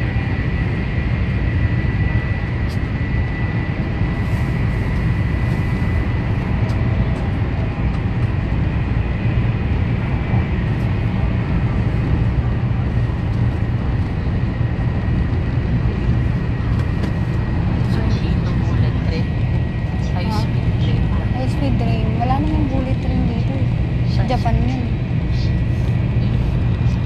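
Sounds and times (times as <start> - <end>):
train cabin rumble: 2.6 - 27.0.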